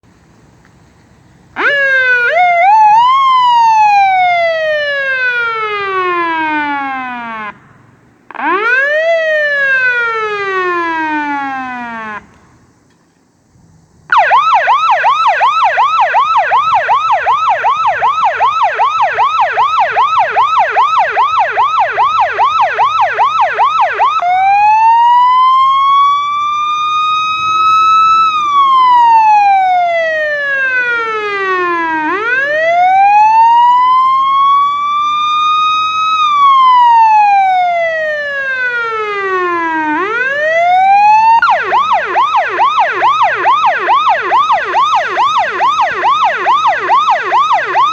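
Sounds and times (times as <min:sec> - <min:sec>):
electronic siren yelp and wail: 0:01.6 - 0:07.6, 0:08.3 - 0:12.4, 0:14.1 - 0:47.9.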